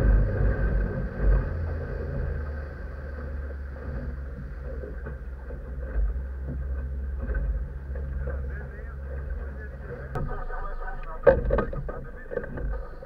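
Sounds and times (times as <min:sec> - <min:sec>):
outboard engine humming: 0:00.0 - 0:13.0
wind: 0:00.0 - 0:13.0.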